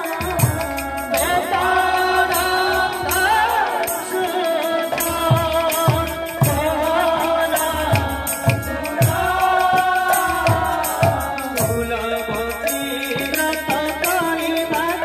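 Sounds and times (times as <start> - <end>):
keyboard holding notes: 0.0 - 15.0
person singing: 0.0 - 15.0.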